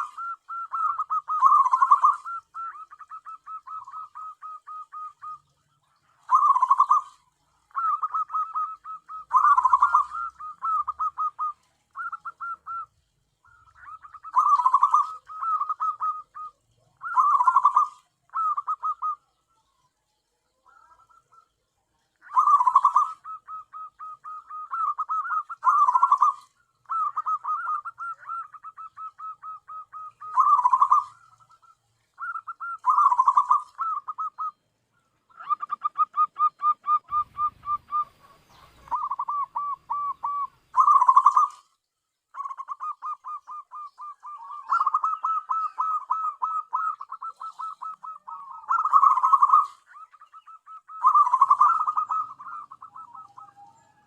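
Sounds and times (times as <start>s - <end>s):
dove cooing: 0.0s - 19.8s, 20.5s - 54.0s.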